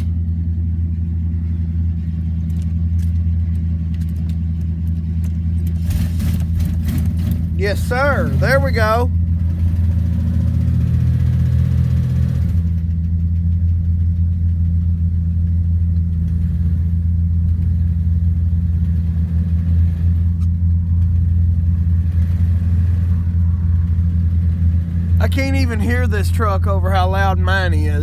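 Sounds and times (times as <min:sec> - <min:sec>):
pickup truck engines idling: 0:00.0 - 0:28.0.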